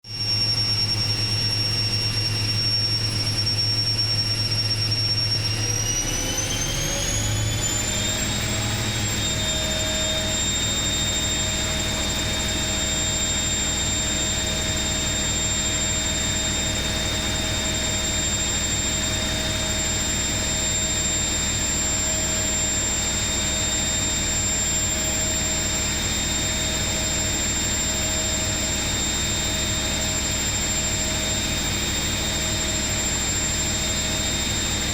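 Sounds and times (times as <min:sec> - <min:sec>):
washing machine spin whine: 0:00.0 - 0:34.9.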